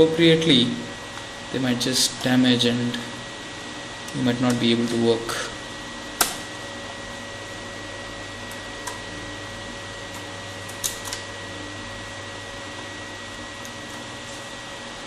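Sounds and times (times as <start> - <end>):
background hum and hiss: 0.0 - 15.0
thin steady whine: 0.0 - 15.0.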